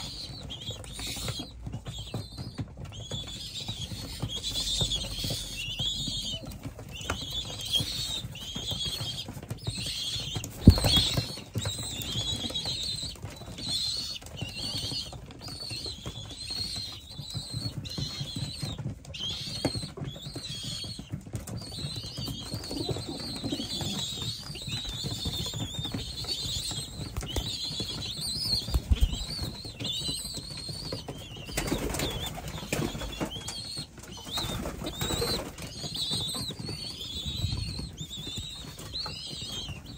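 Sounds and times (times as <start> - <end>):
pigeons flapping wings: 0.0 - 39.9.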